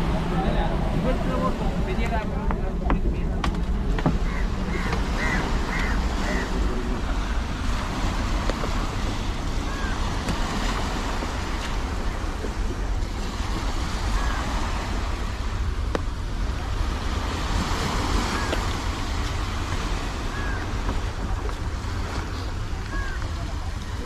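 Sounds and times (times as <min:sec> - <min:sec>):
sea surf washing: 0:00.0 - 0:24.0
wind buffeting microphone: 0:00.0 - 0:24.0.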